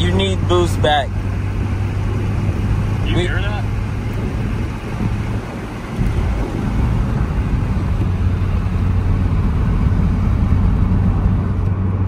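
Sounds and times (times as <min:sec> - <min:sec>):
car engine drone: 0:00.0 - 0:12.0
tyre and road noise: 0:00.0 - 0:12.0.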